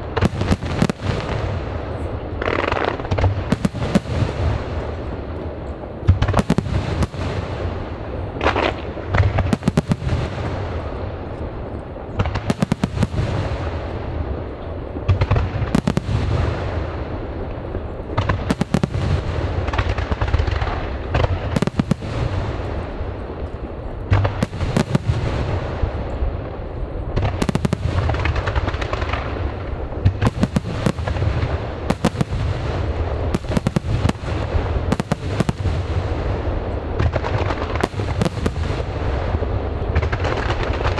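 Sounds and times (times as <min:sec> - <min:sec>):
low rumble and crackle: 0:00.0 - 0:40.9.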